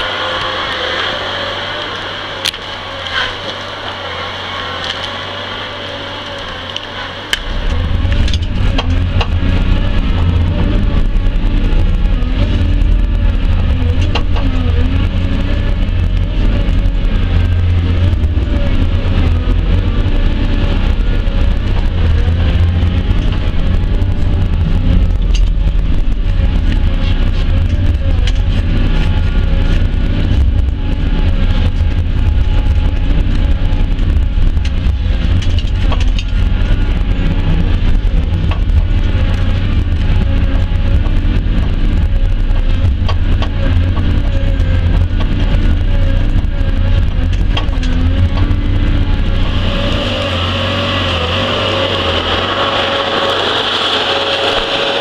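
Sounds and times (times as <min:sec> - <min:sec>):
constant whine: 0:00.0 - 0:55.0
deep engine and hydraulics drone: 0:00.0 - 0:55.0.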